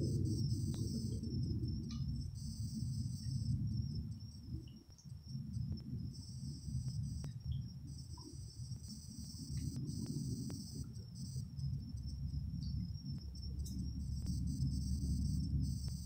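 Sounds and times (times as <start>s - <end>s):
fluttering low rumble: 0.0s - 16.0s
insects chirring: 0.0s - 16.0s.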